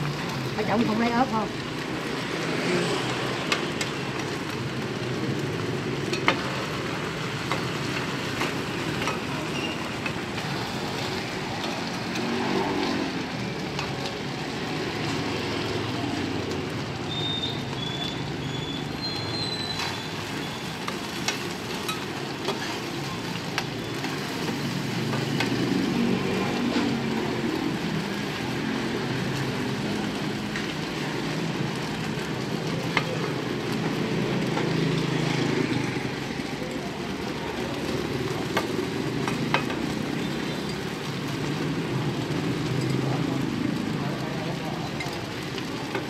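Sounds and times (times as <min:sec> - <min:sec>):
rice cake sizzling in oil: 0:00.0 - 0:46.0.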